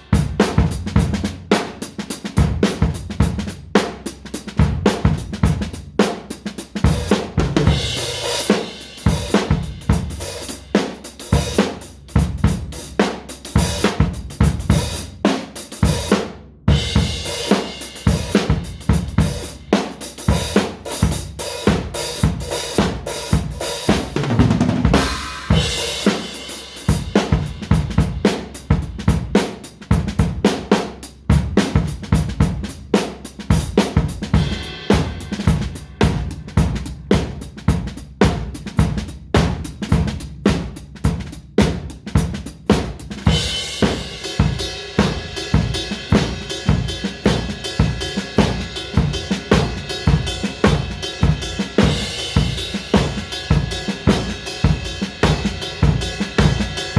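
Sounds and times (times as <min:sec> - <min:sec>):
acoustic drum kit playing: 0:00.0 - 0:56.9.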